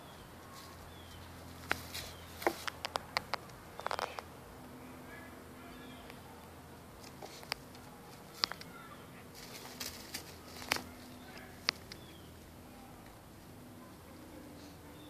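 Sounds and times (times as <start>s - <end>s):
bird calls: 0.0s - 4.3s, 5.0s - 12.9s, 13.8s - 15.0s.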